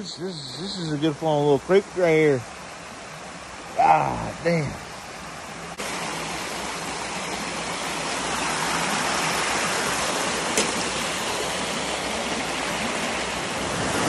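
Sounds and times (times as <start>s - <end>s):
creek rushing over rocks: 0.0s - 14.0s.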